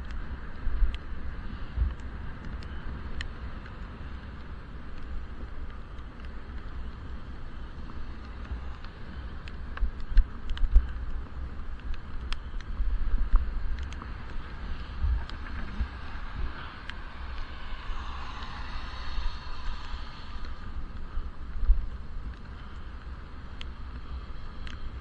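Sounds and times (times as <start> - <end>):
small ticks: 0.0 - 25.0.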